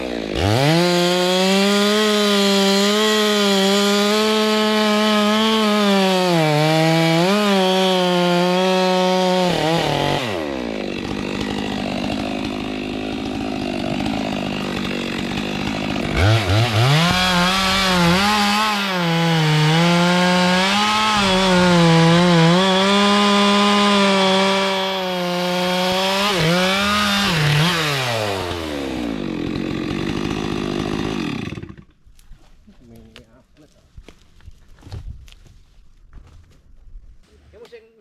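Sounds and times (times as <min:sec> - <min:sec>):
chainsaw cutting wood: 0:00.0 - 0:32.3.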